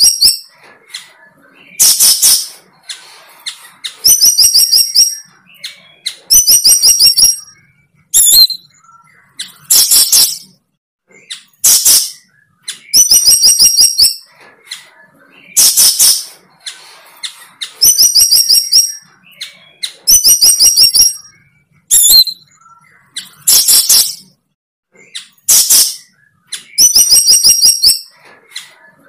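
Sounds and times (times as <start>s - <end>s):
bird singing: 0.0s - 29.0s.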